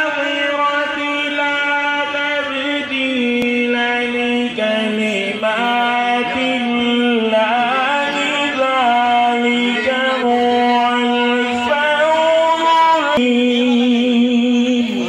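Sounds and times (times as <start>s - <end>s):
man chanting devotional melody: 0.0s - 15.0s.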